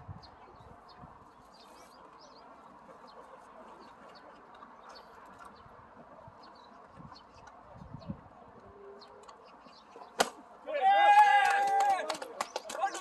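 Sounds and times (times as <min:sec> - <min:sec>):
small birds chirping: 0:00.1 - 0:10.6.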